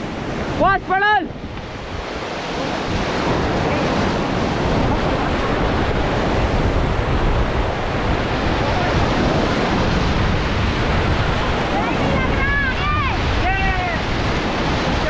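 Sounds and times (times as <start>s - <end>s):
whitewater rushing: 0.0s - 15.0s
wind buffeting microphone: 0.0s - 15.0s.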